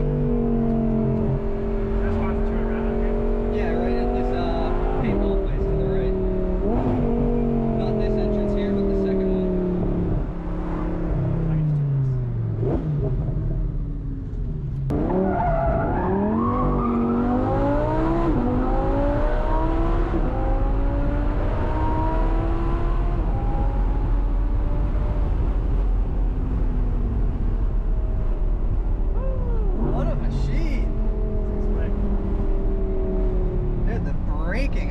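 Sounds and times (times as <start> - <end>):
sports car engine revving: 0.0 - 34.9.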